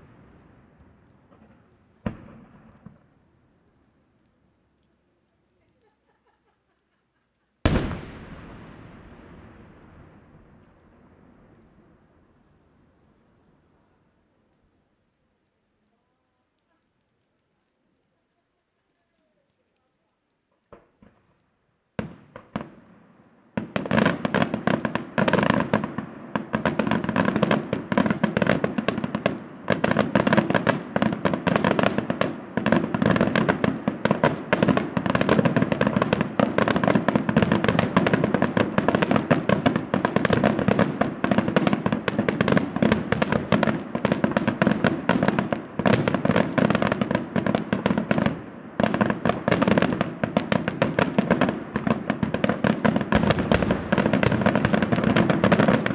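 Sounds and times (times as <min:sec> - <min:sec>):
firework shells bursting: 0:00.0 - 0:15.9, 0:18.9 - 0:55.9
firework crackle: 0:00.0 - 0:55.9.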